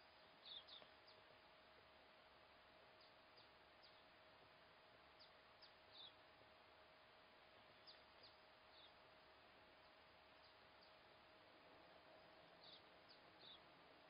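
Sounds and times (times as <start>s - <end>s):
faint hiss and hum: 0.0s - 14.0s.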